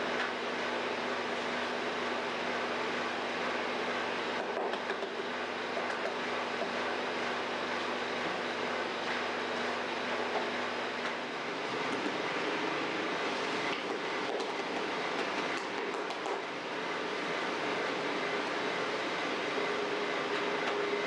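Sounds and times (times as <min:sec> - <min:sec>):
bakery machinery running: 0:00.0 - 0:21.0.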